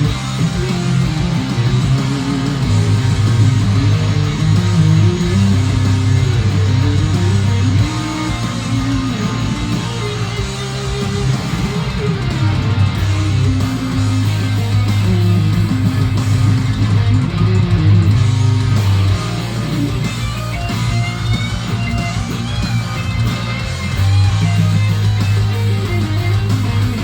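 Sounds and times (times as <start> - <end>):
heavy metal music: 0.0 - 27.0
lead guitar lines: 0.0 - 27.0.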